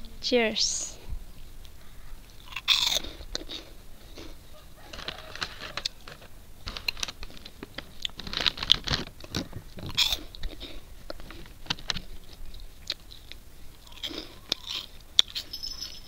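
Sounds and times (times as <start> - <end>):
chips being crunched: 2.4 - 15.4.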